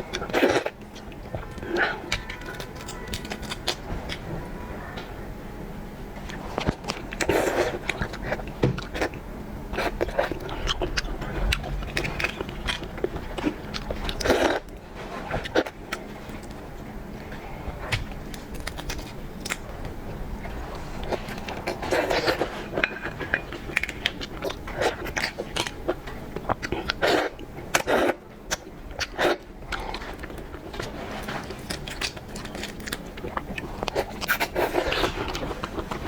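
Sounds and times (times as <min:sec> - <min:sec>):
crunching and chewing: 0:00.0 - 0:05.1, 0:06.2 - 0:36.0.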